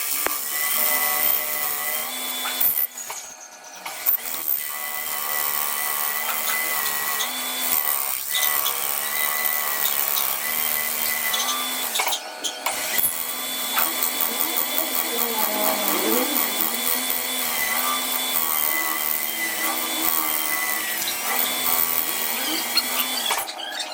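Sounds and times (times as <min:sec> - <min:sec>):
machine tool cutting metal: 0:00.0 - 0:23.9.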